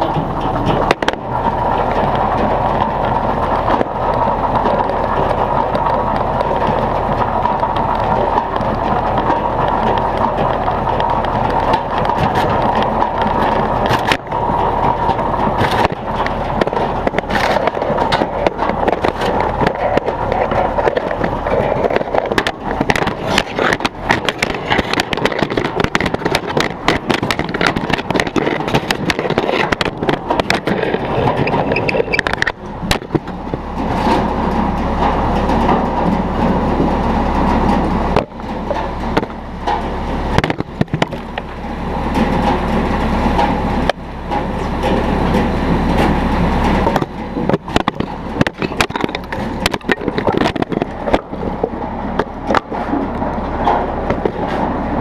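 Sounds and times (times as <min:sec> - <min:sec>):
wood knocking and clattering: 0:00.0 - 0:41.6, 0:43.4 - 0:54.8
firewood processor rattling: 0:00.0 - 0:55.0.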